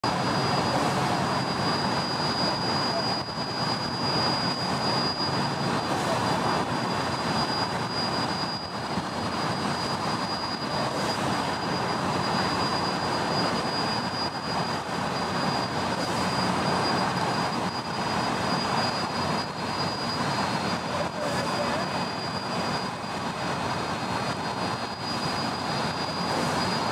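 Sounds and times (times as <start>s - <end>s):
thin high tone: 0.0s - 26.9s
steam hissing: 0.1s - 26.9s.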